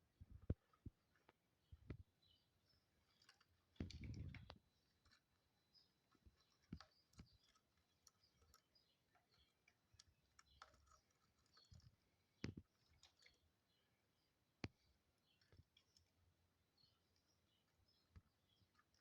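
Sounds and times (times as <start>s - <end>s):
faint clicks and ticks: 2.7s - 19.0s.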